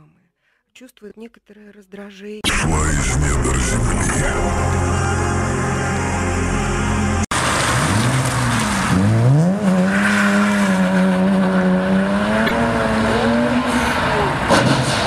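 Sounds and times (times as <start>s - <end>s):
car engine revving: 2.5s - 15.0s.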